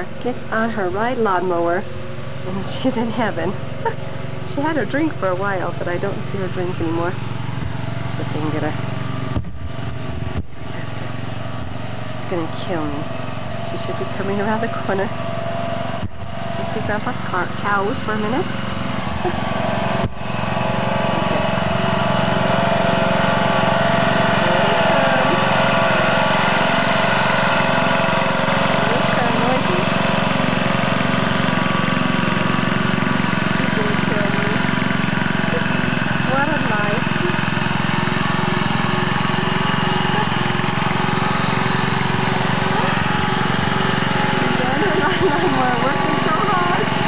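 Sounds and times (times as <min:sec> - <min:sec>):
riding lawn mower engine running: 0:00.0 - 0:47.0.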